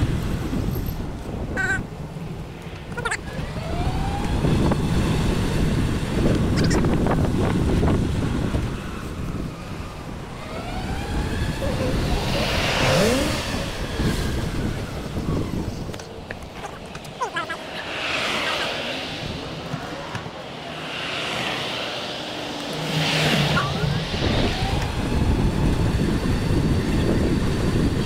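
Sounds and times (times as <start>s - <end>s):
passing cars road noise: 0.0s - 28.0s
wind buffeting microphone: 0.0s - 28.0s.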